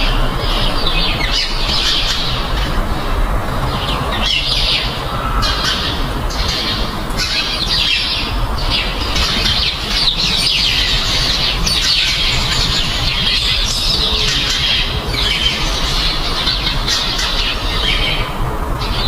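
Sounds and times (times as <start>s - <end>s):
birds chirping: 0.0s - 19.0s
steady low rumble: 0.0s - 19.0s.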